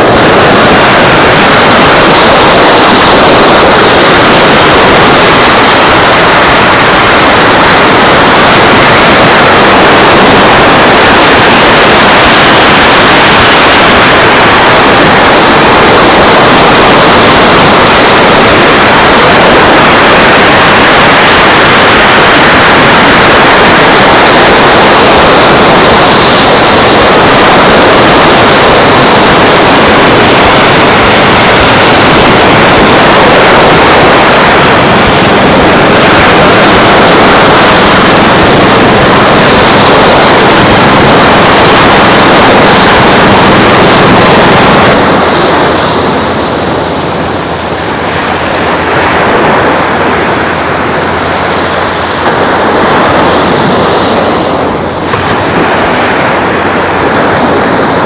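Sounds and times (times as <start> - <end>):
surf rushing: 0.0 - 58.0
wind: 0.0 - 58.0.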